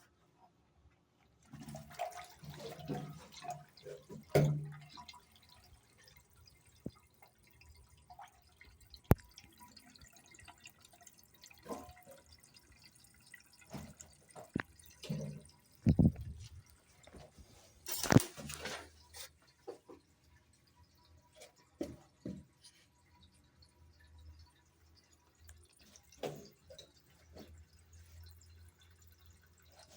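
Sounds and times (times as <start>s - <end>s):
water dripping: 1.4s - 29.9s.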